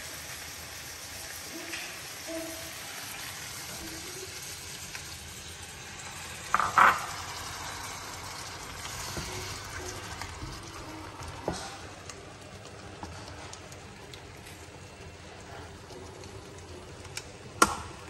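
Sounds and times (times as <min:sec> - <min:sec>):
prawns sizzling in a frying pan: 0:00.0 - 0:18.0.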